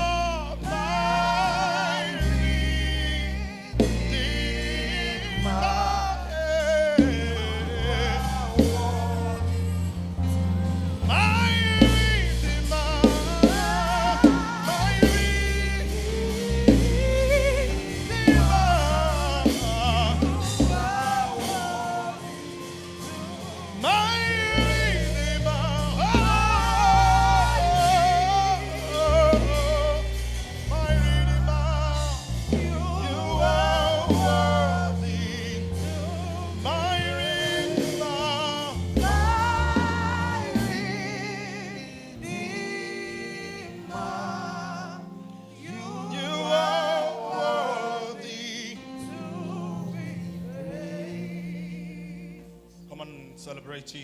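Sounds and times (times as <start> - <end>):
band playing gospel music: 0.0 - 54.0
person singing: 0.0 - 54.0.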